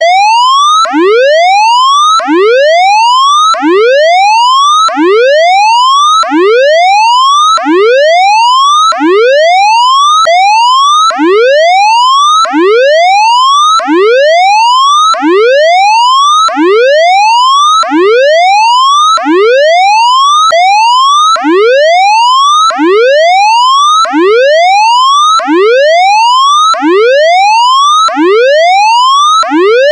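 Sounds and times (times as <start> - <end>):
siren whooping in rising sweeps: 0.0 - 29.9.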